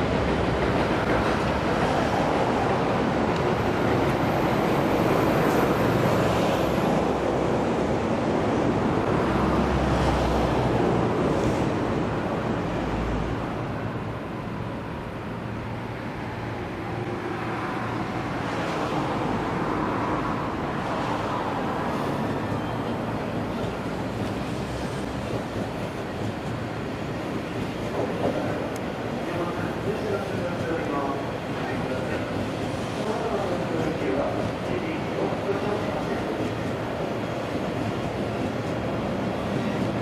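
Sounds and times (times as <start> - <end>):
urban traffic rumble: 0.0 - 40.0.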